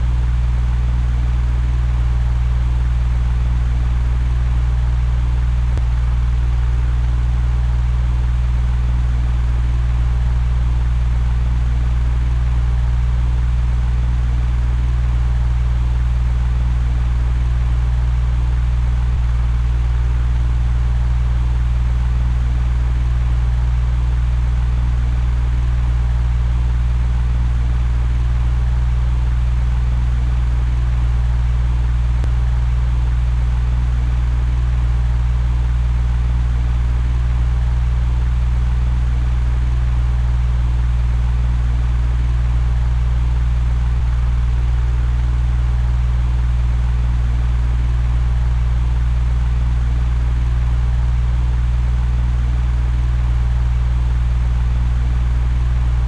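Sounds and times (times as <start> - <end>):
electric fan humming: 0.0 - 52.8.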